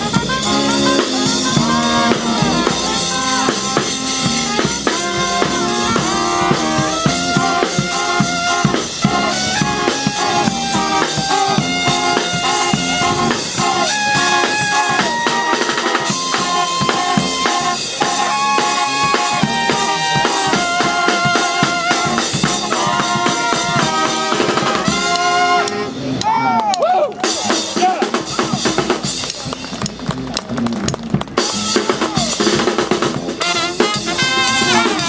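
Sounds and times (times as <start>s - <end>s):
brass jazz band playing: 0.0s - 35.0s
sousaphone and drums beat: 0.0s - 35.0s.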